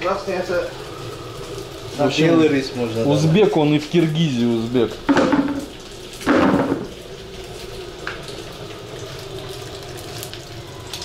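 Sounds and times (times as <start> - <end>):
gas burners hissing: 0.0 - 11.0.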